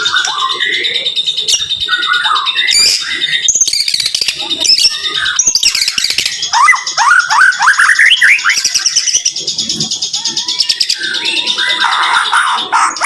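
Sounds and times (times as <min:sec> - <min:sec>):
songbird singing rapid song: 0:00.0 - 0:13.0.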